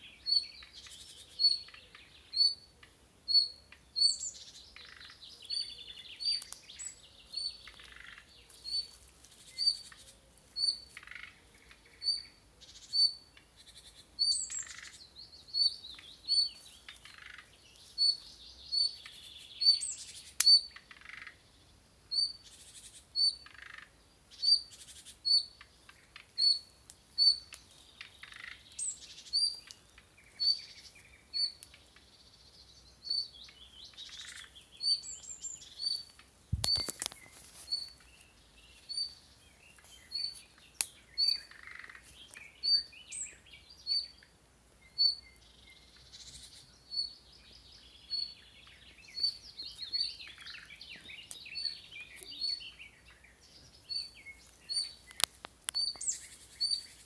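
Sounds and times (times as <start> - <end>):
songbirds singing and trilling: 0.0 - 57.0.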